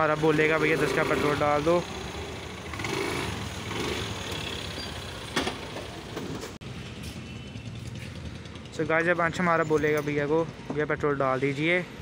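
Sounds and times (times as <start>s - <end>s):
vehicle engine idling: 0.0s - 11.0s
traffic hum: 0.0s - 12.0s.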